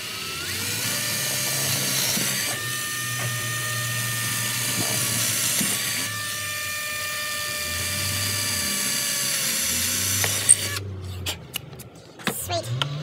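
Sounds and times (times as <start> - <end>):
cordless drill boring into wood: 0.0 - 10.8.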